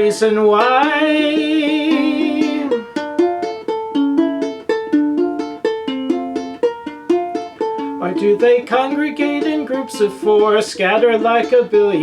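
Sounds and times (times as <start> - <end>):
ukulele plucked chords: 0.0 - 12.0.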